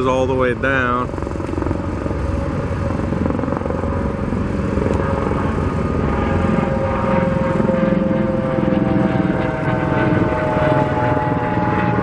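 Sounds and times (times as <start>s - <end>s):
droning tone: 0.0s - 12.0s
engine rumble: 0.0s - 12.0s.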